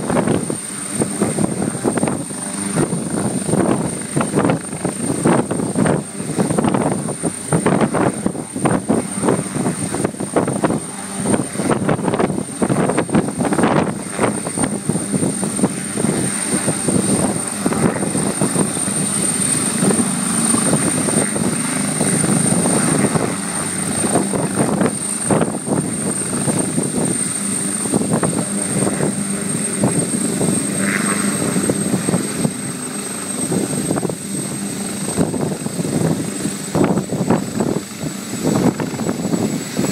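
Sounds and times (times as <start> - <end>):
helicopter rotor chopping: 0.0 - 39.9
high turbine whine: 0.0 - 39.9.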